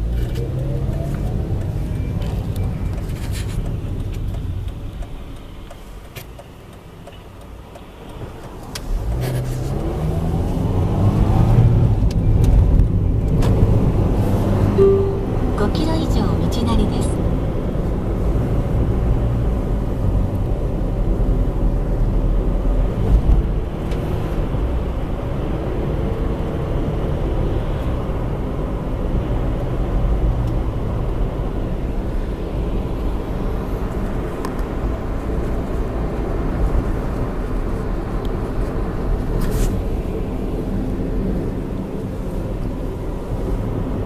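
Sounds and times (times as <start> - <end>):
car interior road rumble: 0.0 - 44.0.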